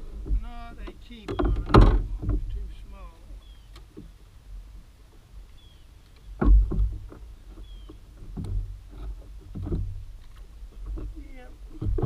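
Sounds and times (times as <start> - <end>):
knocks and bumps in plastic kayak: 0.0 - 4.2, 6.2 - 12.0.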